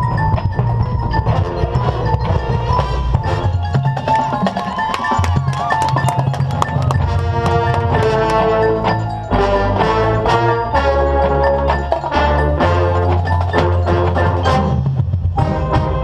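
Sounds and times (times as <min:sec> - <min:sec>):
drums and hand percussion: 0:00.0 - 0:16.0
marimbas and xylophones playing runs: 0:00.0 - 0:16.0.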